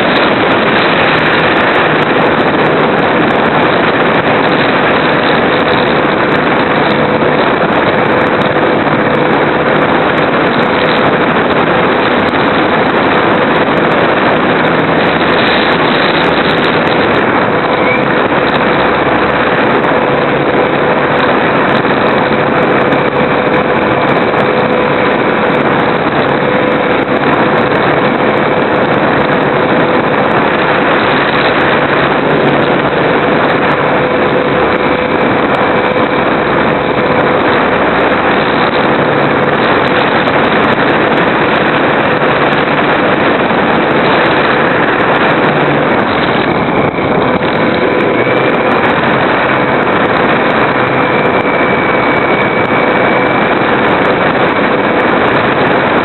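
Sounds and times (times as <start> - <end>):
loud rushing noise: 0.0 - 56.0
model airplane motor and propeller: 0.0 - 56.0.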